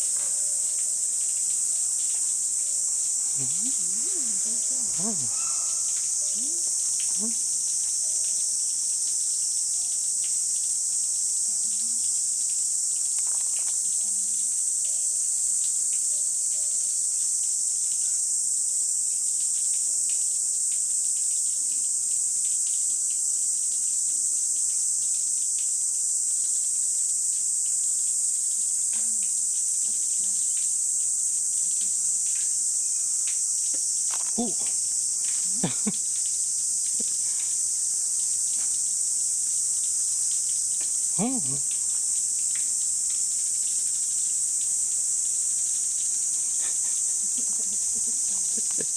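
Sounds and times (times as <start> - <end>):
cicadas singing: 0.0 - 48.9.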